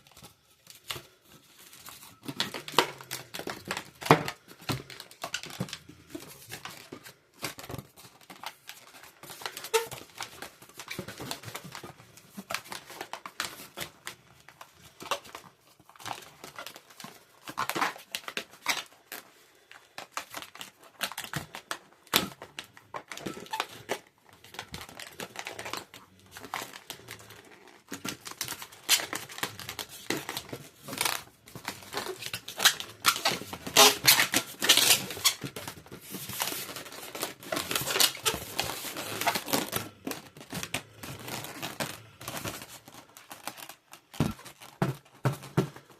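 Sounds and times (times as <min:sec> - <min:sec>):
balloons squeaking and crinkling: 0:00.0 - 0:45.9.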